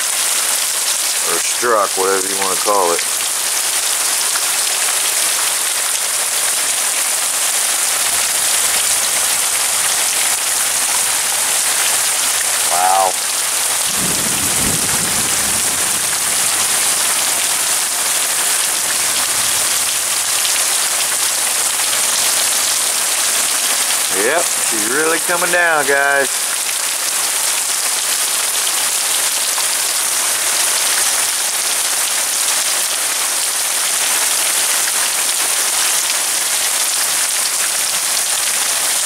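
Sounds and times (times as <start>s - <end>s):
heavy rain pouring: 0.0s - 39.0s.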